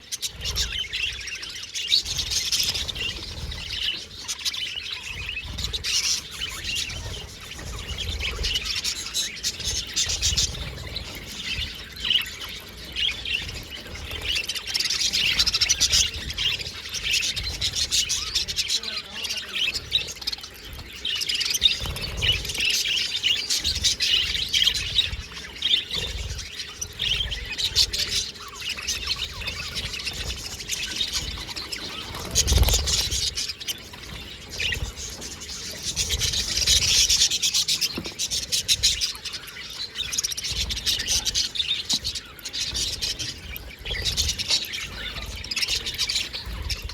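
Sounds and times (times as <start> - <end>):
budgerigars chattering: 0.0 - 46.9.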